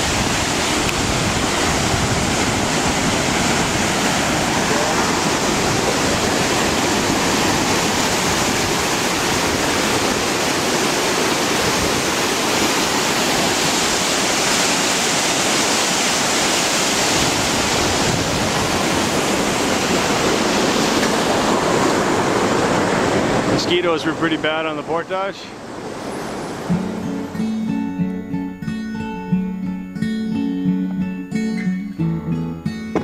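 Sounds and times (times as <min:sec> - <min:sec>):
rush of falling water: 0:00.0 - 0:26.7.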